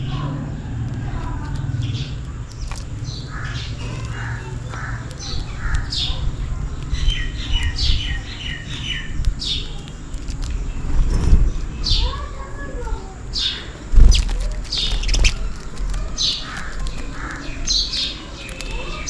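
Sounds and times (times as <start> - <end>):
low background rumble: 0.0 - 19.0
sparrows chirping: 0.0 - 19.0.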